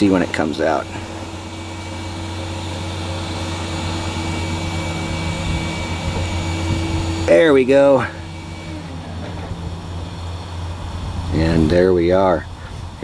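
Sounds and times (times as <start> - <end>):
machine humming with high tone: 0.0 - 13.0.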